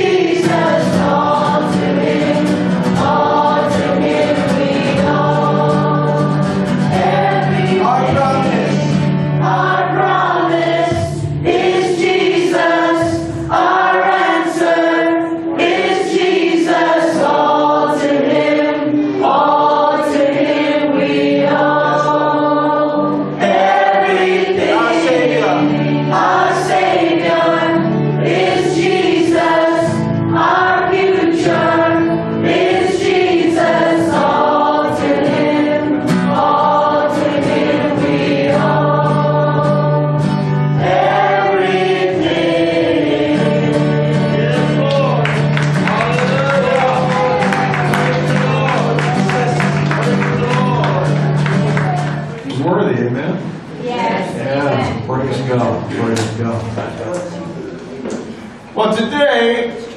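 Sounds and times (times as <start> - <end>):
choir singing gospel music: 0.0 - 52.9.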